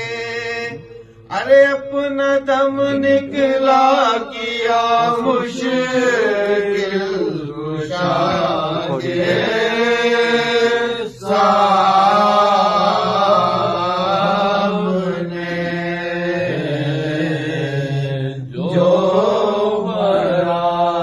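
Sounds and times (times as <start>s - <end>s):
voices chanting held notes: 2.5s - 21.0s.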